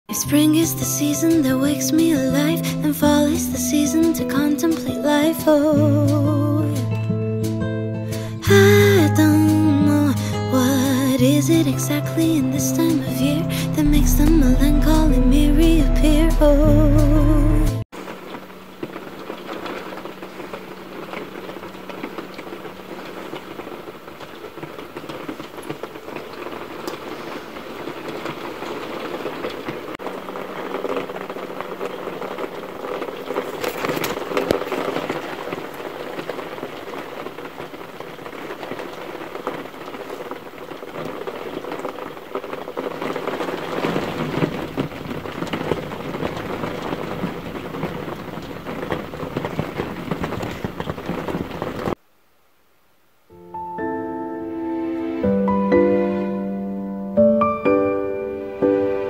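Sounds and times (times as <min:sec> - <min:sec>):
heavy rain on window: 0:00.1 - 0:59.0.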